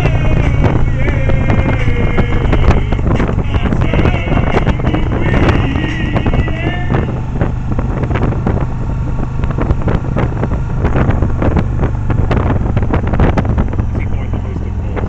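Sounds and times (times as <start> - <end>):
motorcycle engine droning: 0.0 - 15.0
wind buffeting microphone: 0.0 - 15.0.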